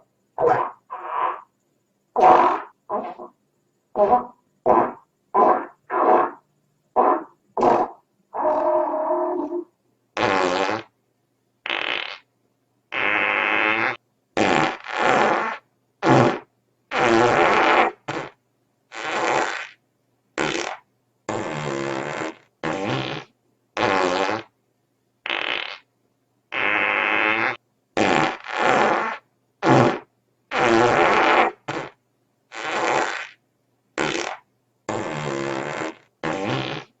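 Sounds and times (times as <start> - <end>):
fart sound effects: 0.4 - 1.5, 2.2 - 3.4, 4.0 - 6.4, 7.0 - 10.9, 11.6 - 12.3, 12.9 - 19.8, 20.4 - 24.5, 25.3 - 25.9, 26.5 - 33.4, 34.0 - 37.0.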